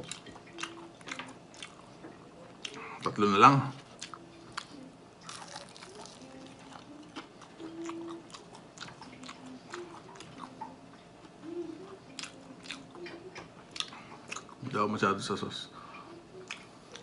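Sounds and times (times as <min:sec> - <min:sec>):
person chewing close to mic: 0:00.0 - 0:14.7, 0:15.9 - 0:17.0.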